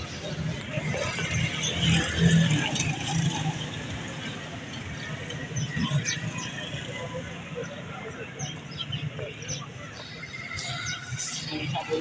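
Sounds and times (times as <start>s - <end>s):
market hubbub: 0.0s - 12.0s.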